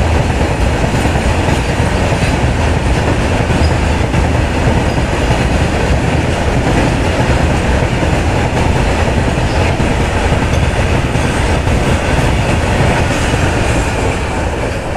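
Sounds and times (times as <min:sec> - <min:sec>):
freight train rumbling past: 0:00.0 - 0:14.9
wheels clacking over rail joints: 0:00.0 - 0:14.9.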